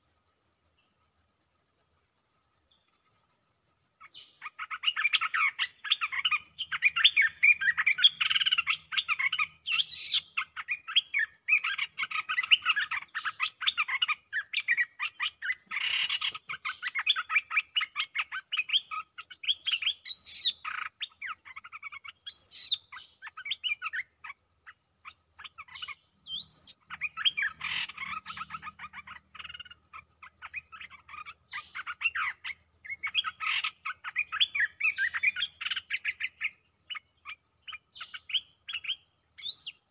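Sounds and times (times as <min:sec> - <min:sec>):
birds chattering song: 0:02.2 - 0:39.9.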